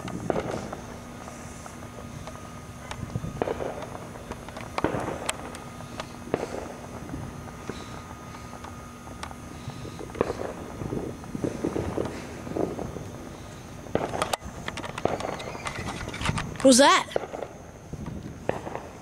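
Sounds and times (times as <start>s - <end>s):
firecracker bangs and crackle: 0.0s - 19.0s.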